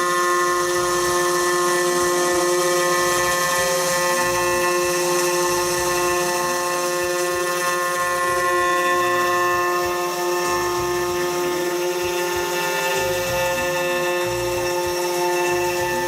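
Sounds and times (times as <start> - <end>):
motor tone rising and falling: 0.0 - 16.0
spindle whine: 0.0 - 16.0.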